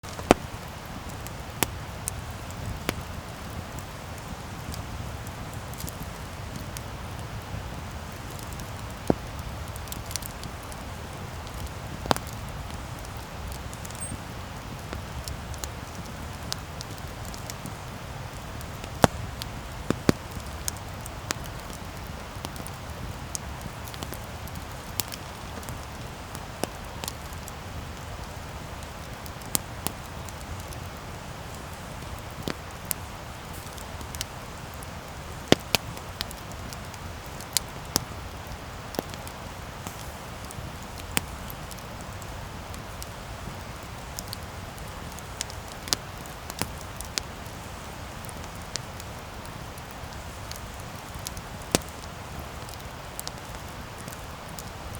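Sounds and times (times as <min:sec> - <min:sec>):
campfire crackling and hissing: 0:00.0 - 0:54.9.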